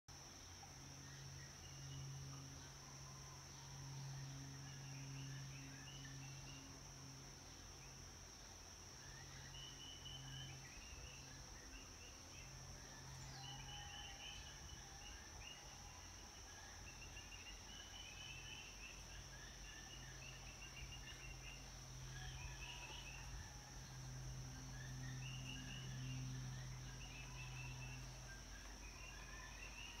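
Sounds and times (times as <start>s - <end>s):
faint low hum: 0.1s - 30.0s
high insect drone: 0.1s - 30.0s.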